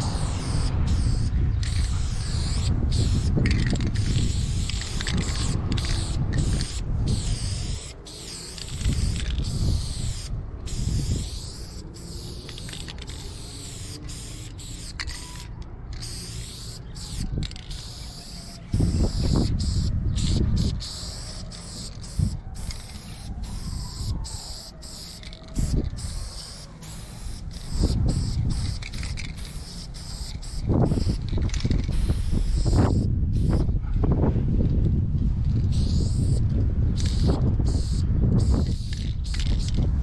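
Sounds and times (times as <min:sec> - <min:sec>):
spray-paint can hissing: 0:00.0 - 0:33.6, 0:35.7 - 0:36.4, 0:37.0 - 0:39.9.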